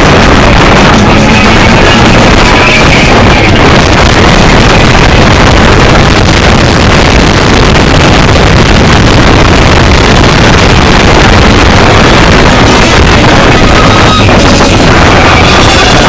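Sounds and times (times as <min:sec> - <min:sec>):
car engine running hard: 0:00.0 - 0:16.0
wind and road noise: 0:00.0 - 0:16.0.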